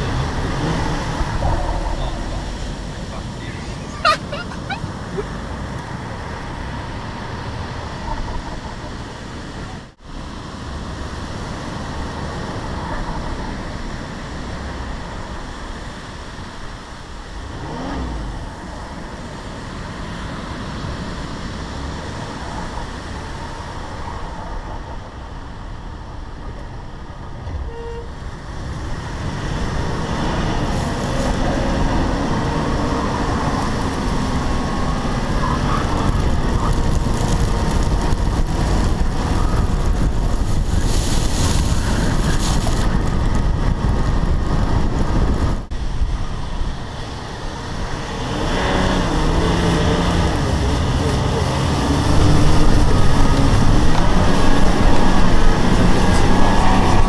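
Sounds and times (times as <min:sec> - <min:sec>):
vehicle driving on sand: 0:00.0 - 0:57.0.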